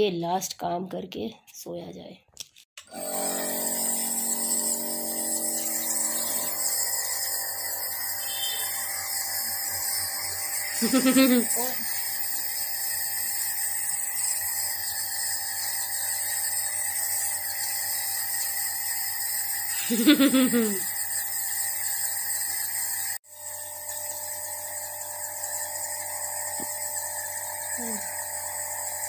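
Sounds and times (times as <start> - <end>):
nebulizer buzzing drone: 2.8 - 29.0.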